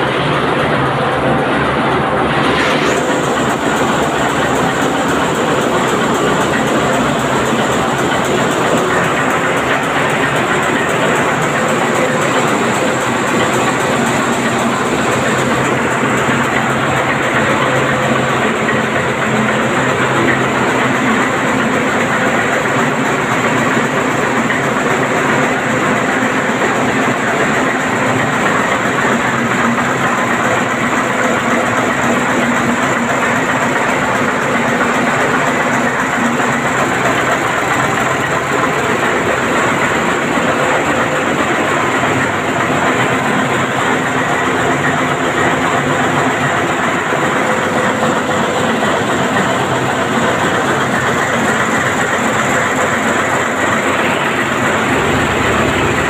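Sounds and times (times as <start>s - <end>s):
machinery noise: 0.0s - 56.0s
marine diesel engine running: 0.0s - 56.0s.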